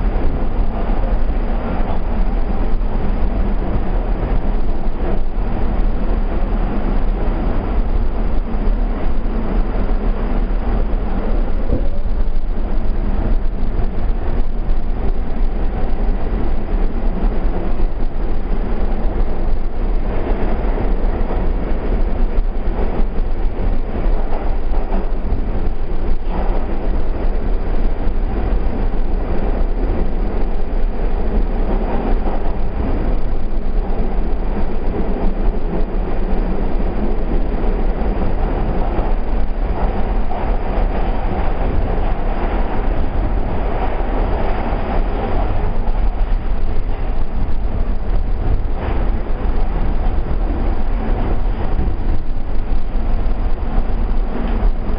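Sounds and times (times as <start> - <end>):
loud subway car rumble: 0.0 - 54.9.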